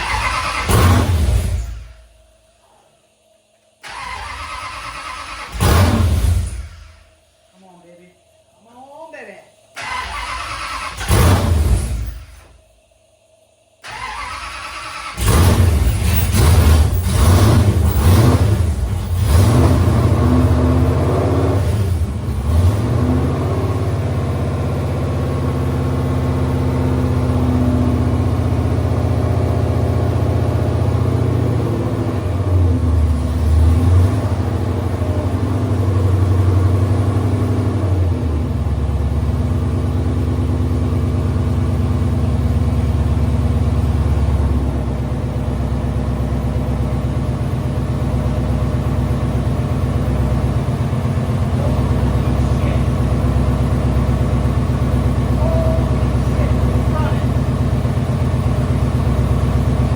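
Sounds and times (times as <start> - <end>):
car engine revving at idle: 0.0 - 2.1, 13.8 - 59.9.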